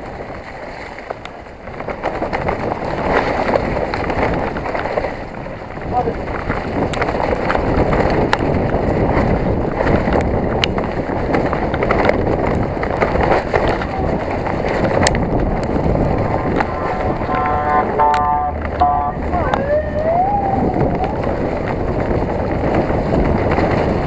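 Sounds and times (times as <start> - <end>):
bike and stones clicking and rattling: 0.0 - 17.9, 18.5 - 24.0
tyres rolling over dirt: 0.0 - 24.0
wind rushing over microphone: 0.0 - 24.0.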